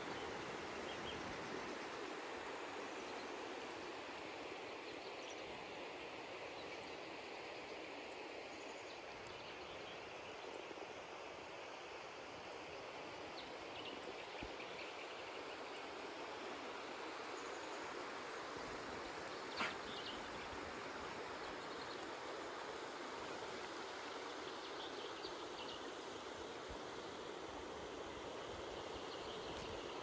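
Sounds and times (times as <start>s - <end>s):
outdoor background noise: 0.0s - 30.0s.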